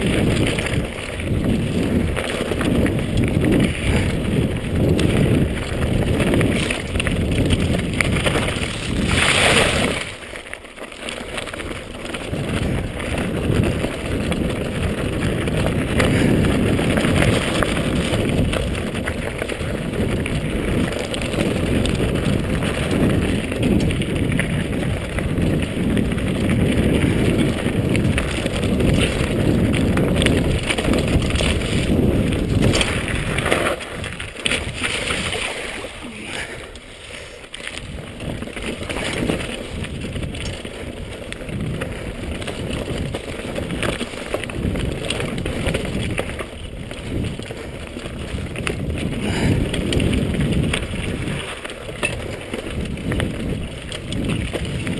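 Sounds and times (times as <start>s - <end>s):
wind buffeting microphone: 0.0s - 10.2s, 11.4s - 54.9s
bike tyres rumbling over rocks: 0.0s - 54.9s.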